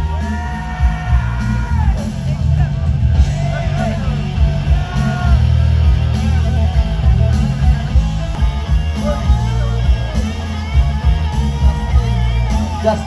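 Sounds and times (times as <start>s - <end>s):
loud rock music: 0.0s - 13.0s.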